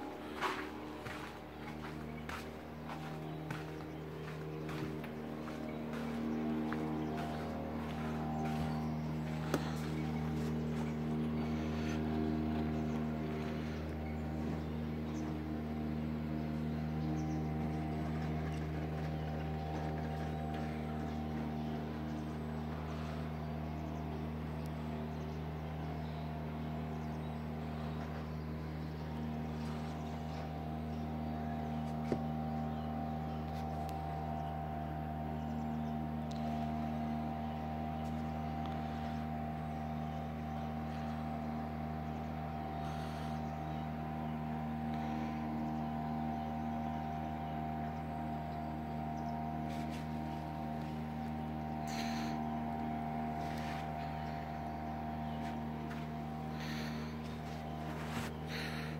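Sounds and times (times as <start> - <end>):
low machine hum: 0.0 - 58.9.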